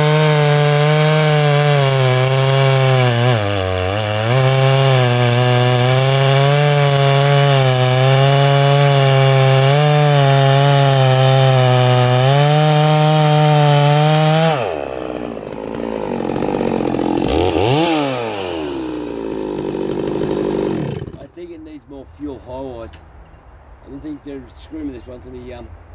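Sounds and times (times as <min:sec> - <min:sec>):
chainsaw cutting at full throttle: 0:00.0 - 0:21.3.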